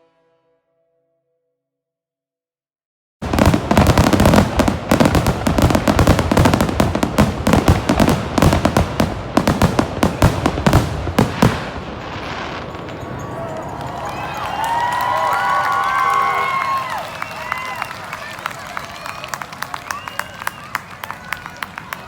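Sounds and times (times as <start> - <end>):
fireworks cracks and bangs: 3.2 - 22.0.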